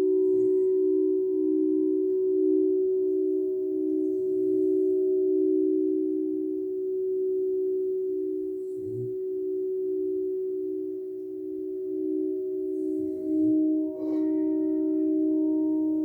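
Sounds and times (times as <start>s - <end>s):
singing bowls ringing drone: 0.0s - 16.0s.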